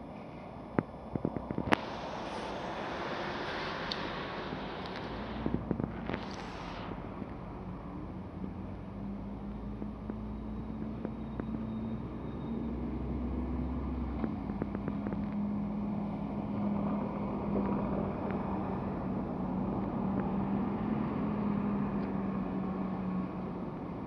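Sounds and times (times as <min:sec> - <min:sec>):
wheels rumbling on rail: 0:00.0 - 0:24.0
tram motor hum: 0:01.0 - 0:21.0.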